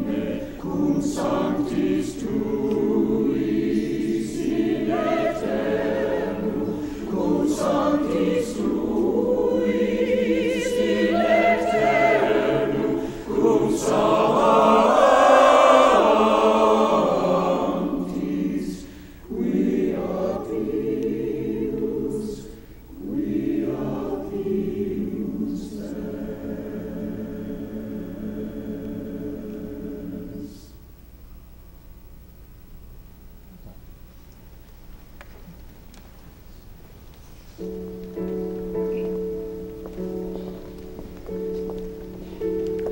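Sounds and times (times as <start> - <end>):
choir singing: 0.0 - 30.8, 37.6 - 42.9.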